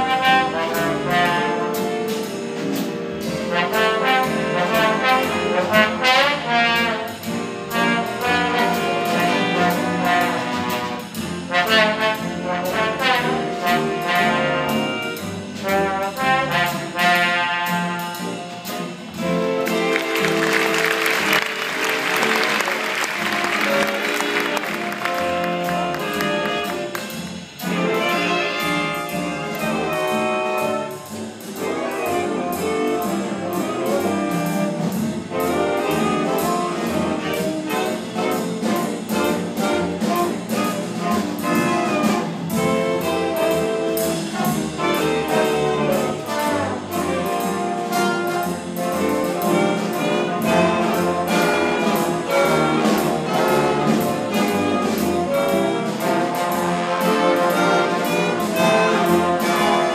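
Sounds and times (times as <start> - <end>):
jazz big band playing: 0.0 - 59.9.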